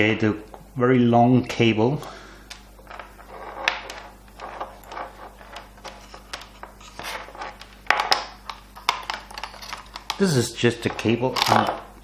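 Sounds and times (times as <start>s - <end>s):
plastic clicks: 2.0s - 11.8s.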